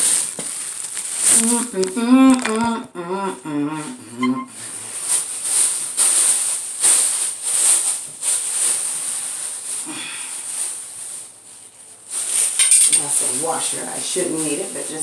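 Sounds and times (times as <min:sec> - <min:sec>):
plastic bag crinkling: 0:00.0 - 0:02.9, 0:04.1 - 0:15.0.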